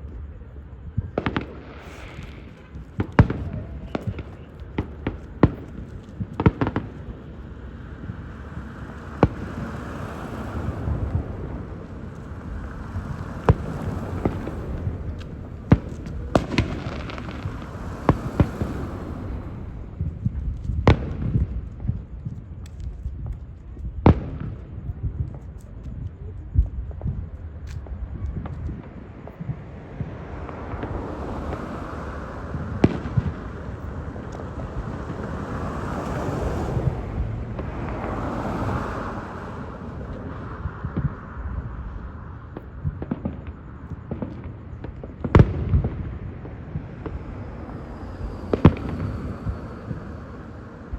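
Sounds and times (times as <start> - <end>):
fireworks bangs: 0.0 - 50.9
fireworks crackling: 0.0 - 50.9.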